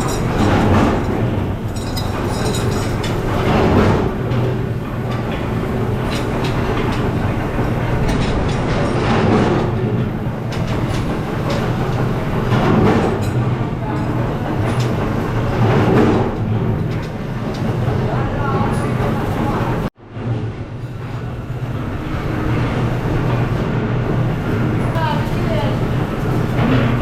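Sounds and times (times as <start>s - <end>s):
workshop machinery humming and rattling: 0.0s - 27.0s.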